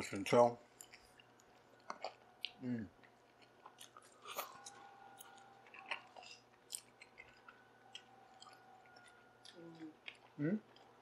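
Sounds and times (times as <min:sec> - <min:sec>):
chewing on chicken wing: 0:00.8 - 0:11.0.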